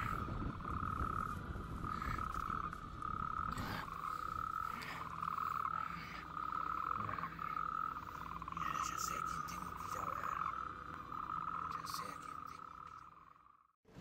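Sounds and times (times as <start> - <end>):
frogs trilling: 0.0 - 13.8.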